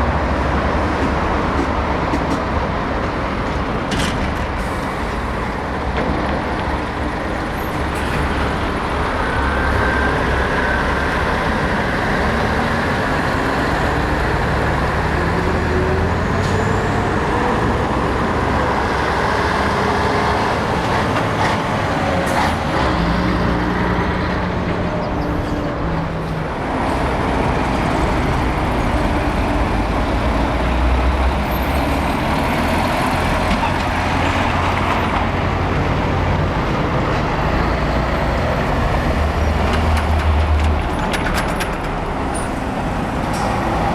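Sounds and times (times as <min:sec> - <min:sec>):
diesel trucks driving past: 0:00.0 - 0:43.9.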